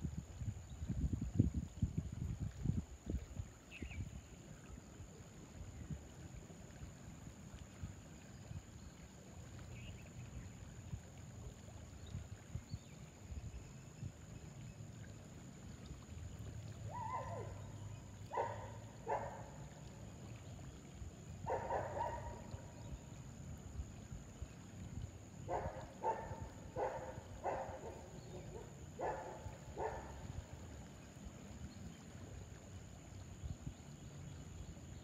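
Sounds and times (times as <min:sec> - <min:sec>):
flowing water rumble: 0:00.0 - 0:35.0
wind: 0:00.0 - 0:35.0.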